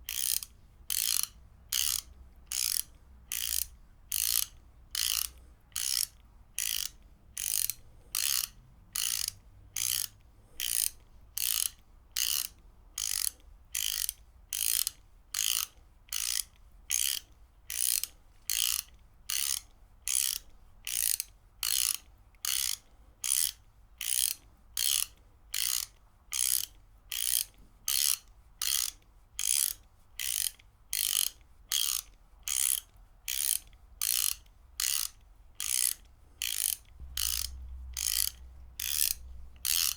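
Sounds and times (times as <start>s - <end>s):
ratchet wrench clicking: 0.1s - 39.9s.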